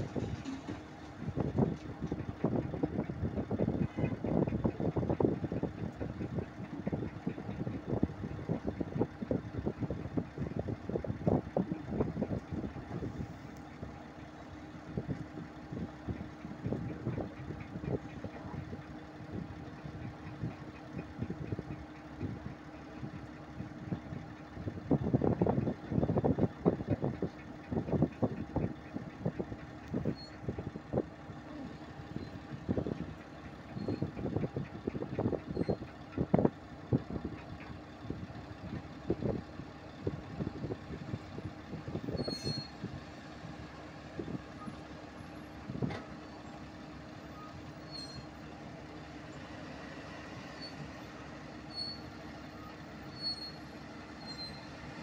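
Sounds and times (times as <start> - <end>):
diesel machinery idling: 0.0 - 55.0.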